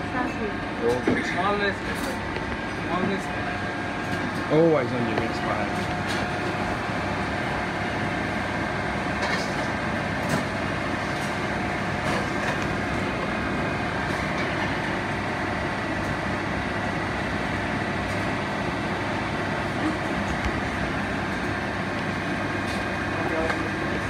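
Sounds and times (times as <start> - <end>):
kitchen machinery and fans droning: 0.0 - 24.0.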